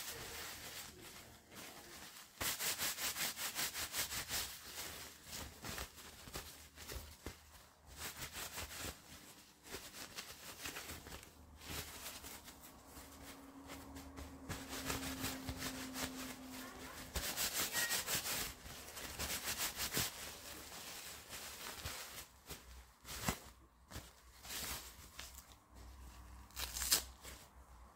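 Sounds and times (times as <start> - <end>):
diapers and plastic pack crinkling: 0.0 - 27.9.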